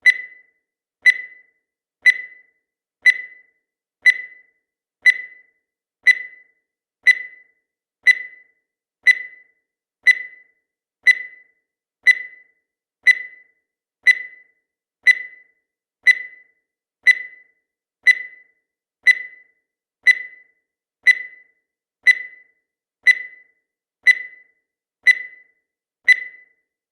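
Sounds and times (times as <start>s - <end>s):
timer tick-beeps: 0.0s - 26.9s.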